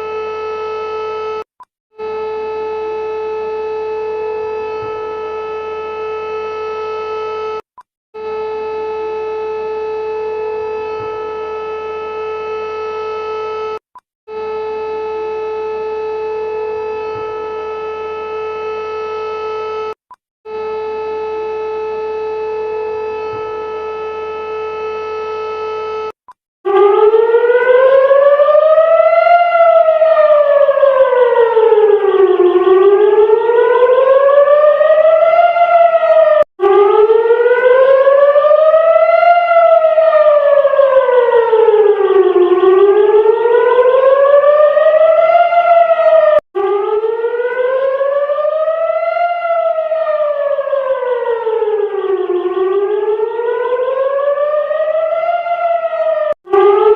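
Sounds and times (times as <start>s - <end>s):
warning siren wailing: 0.0s - 7.6s, 8.2s - 56.9s.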